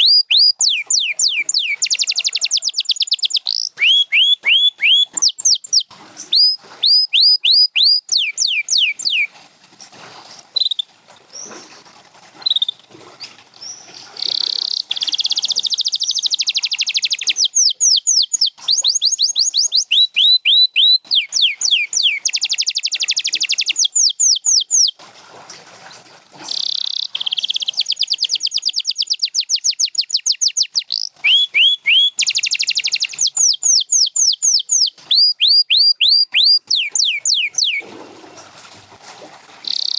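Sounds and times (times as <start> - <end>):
canary singing: 0.0 - 9.3, 13.6 - 25.0, 26.5 - 37.8, 39.7 - 39.9.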